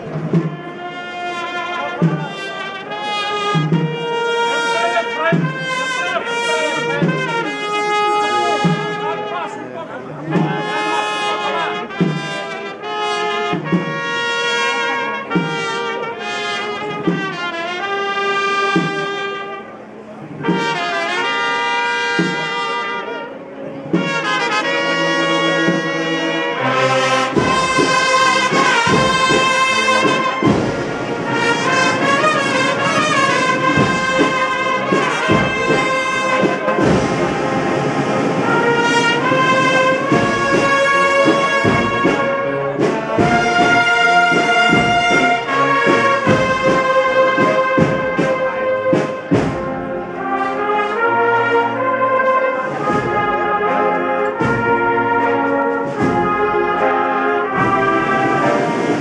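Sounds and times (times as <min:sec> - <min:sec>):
drum beats: 0:00.0 - 0:19.7, 0:20.3 - 0:59.0
brass band playing a march: 0:00.0 - 0:59.0.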